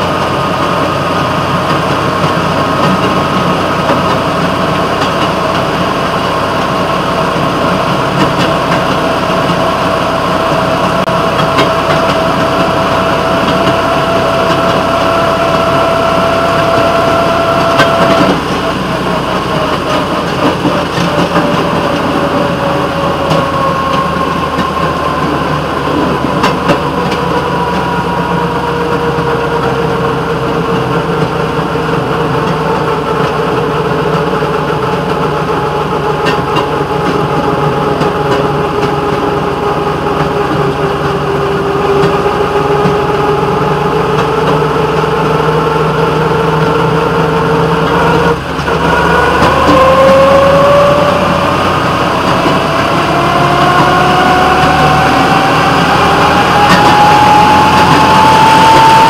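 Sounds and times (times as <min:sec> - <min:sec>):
rail motorcar engine running: 0:00.0 - 0:59.0.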